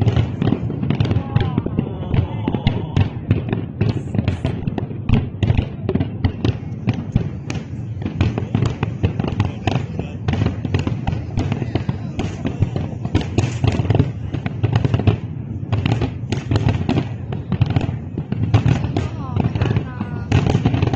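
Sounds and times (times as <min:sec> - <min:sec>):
fireworks bangs and crackles: 0:00.0 - 0:20.9.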